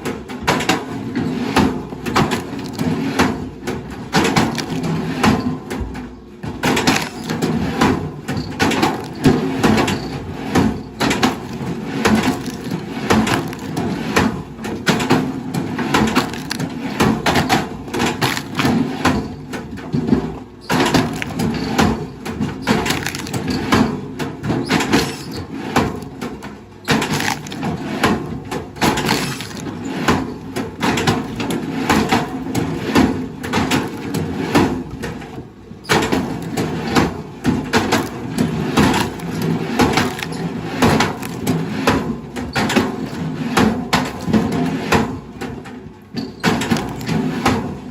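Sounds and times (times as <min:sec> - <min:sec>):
wood cracking and splintering: 0:00.5 - 0:05.8, 0:06.4 - 0:47.9.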